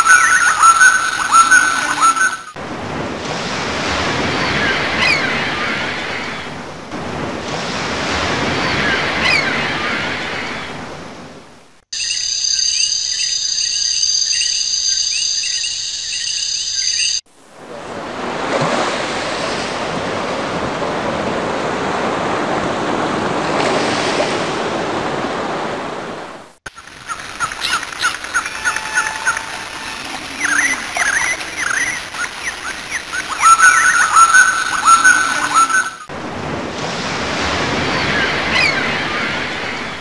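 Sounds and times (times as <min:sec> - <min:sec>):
rushing surf: 0:00.0 - 0:11.6, 0:17.3 - 0:40.0.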